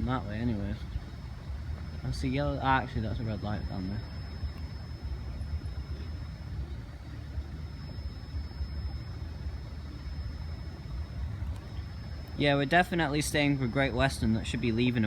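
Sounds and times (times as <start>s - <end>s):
thin high whine: 0.0s - 15.0s
vehicle engines idling: 0.0s - 15.0s.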